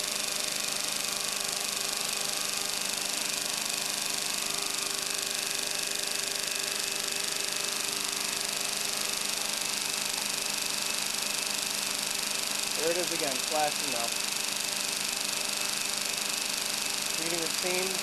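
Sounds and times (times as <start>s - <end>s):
electrical hum and high buzz: 0.0s - 18.0s.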